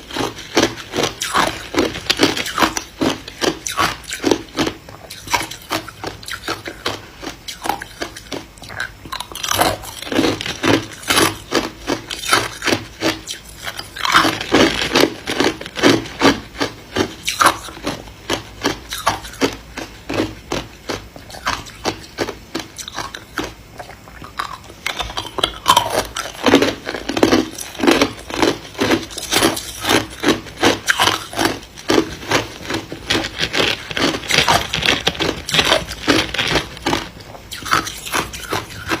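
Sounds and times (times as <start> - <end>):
ice crunching between teeth: 0.0 - 39.0.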